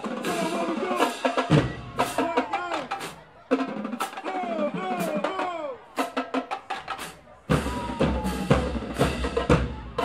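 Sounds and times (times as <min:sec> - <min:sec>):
drumline playing: 0:00.0 - 0:10.0.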